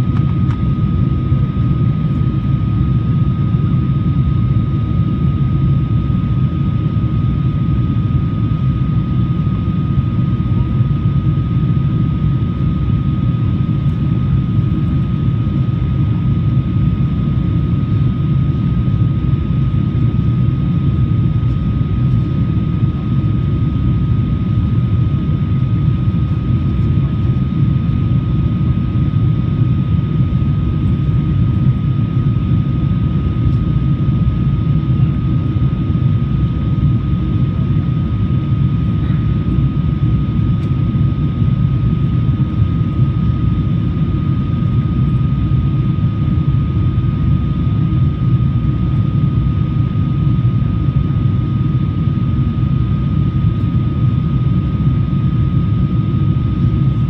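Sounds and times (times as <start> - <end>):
engine and air rumble: 0.0 - 57.0.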